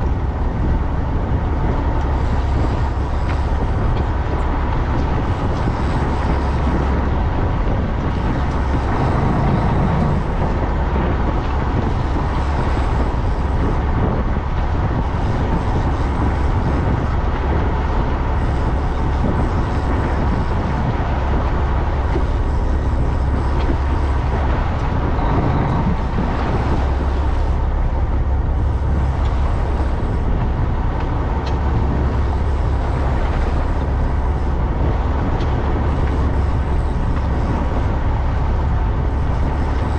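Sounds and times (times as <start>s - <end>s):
boat engine droning: 0.0s - 39.9s
wind and water rushing: 0.0s - 39.9s.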